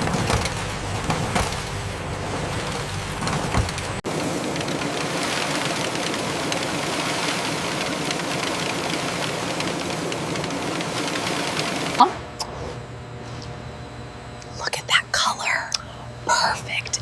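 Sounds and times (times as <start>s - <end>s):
factory machinery running: 0.0s - 17.0s
quiet hum: 0.0s - 17.0s.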